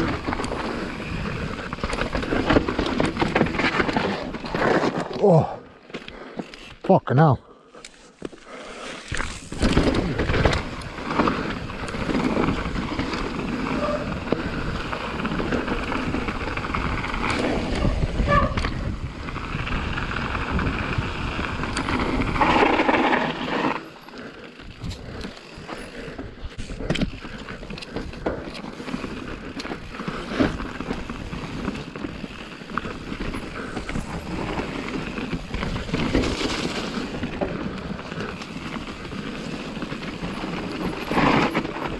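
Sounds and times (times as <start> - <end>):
bike rattling over bumps: 0.0 - 6.8, 8.8 - 41.9
bike tyres on dirt trail: 0.0 - 41.9.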